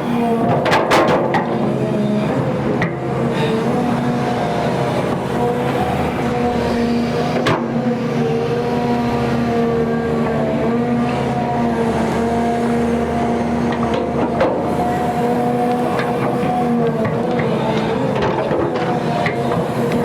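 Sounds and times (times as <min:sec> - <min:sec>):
excavator diesel engine droning: 0:00.0 - 0:20.0.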